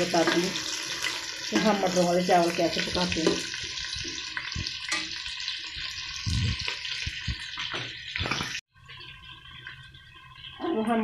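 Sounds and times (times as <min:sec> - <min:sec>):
onions sizzling in a pot: 0:00.0 - 0:11.0.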